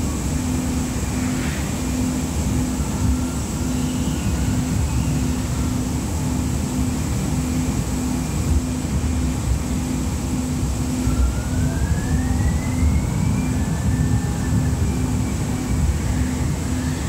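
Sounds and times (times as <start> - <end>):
faint rising whine: 0.0 - 17.0
rail car running gear rumble: 0.0 - 17.0.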